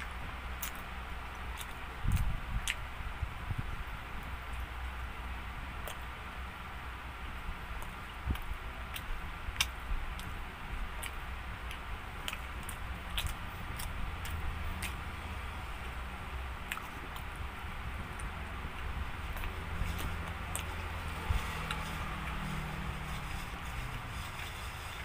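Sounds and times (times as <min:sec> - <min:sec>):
chewing crunchy crust: 0:00.0 - 0:03.0, 0:05.7 - 0:06.2, 0:07.6 - 0:25.0
steady low hum: 0:00.0 - 0:25.0.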